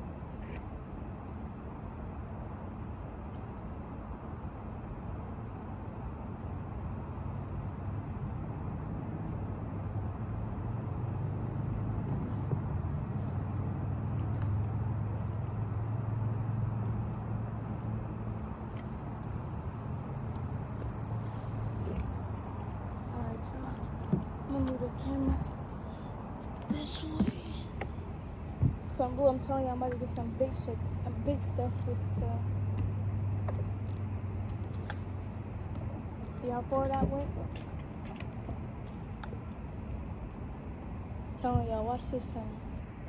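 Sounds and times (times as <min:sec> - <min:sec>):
vehicle engine hum: 0:00.0 - 0:43.0.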